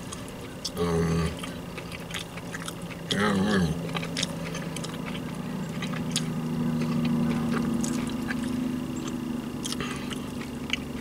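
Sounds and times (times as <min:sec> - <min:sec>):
low engine hum: 0:00.0 - 0:11.0
chewing food clicks: 0:00.1 - 0:11.0.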